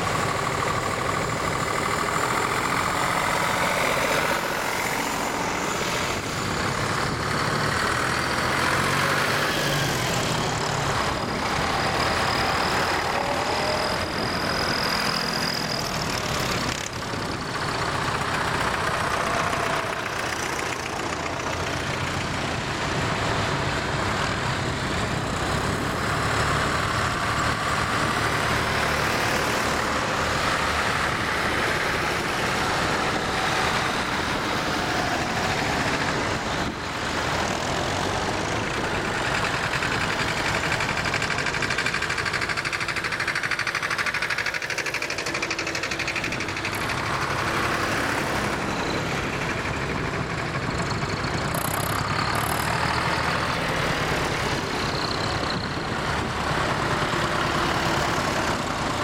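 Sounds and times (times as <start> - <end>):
tractor engines driving past: 0.0 - 59.0.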